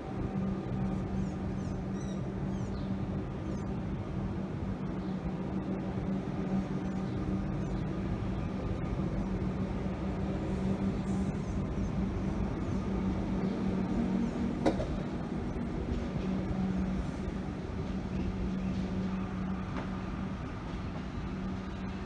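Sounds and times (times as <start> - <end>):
electric train hum: 0.0 - 22.0
wheels rumbling on rails: 0.0 - 22.0.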